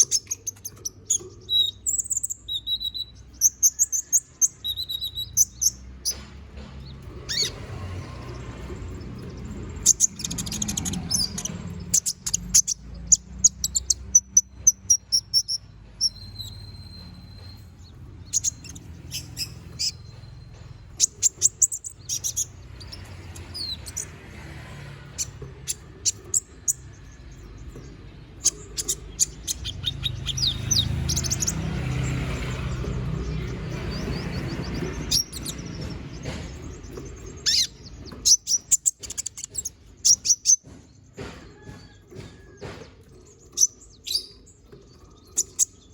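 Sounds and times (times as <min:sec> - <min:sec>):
sunbird chirping and trilling: 0:00.0 - 0:41.7, 0:43.0 - 0:45.9.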